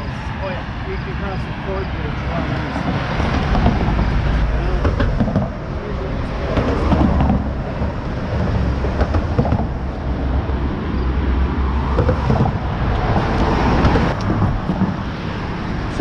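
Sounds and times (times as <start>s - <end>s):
road traffic: 0.0s - 16.0s
wind rumbling on microphone: 0.0s - 16.0s.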